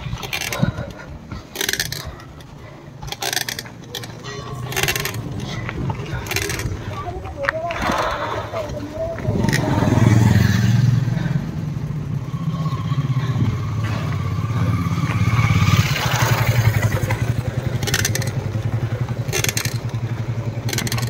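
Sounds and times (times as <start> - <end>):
mountain bike rumble and clatter: 0.0 - 21.0.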